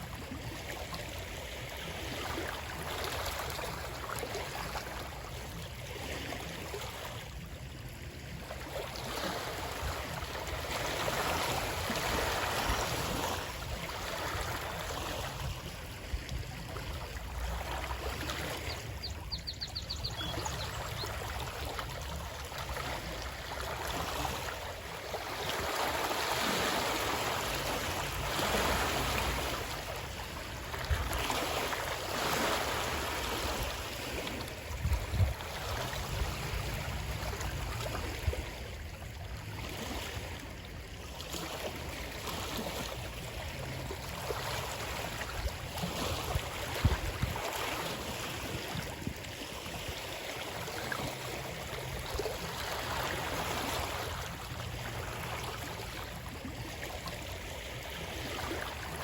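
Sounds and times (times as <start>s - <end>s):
stream flowing and splashing: 0.0s - 59.0s.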